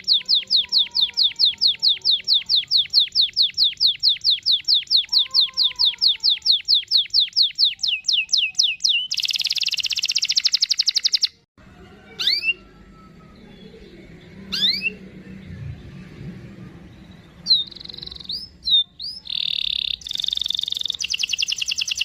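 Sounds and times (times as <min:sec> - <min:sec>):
canary singing: 0:00.0 - 0:16.2, 0:16.8 - 0:22.0.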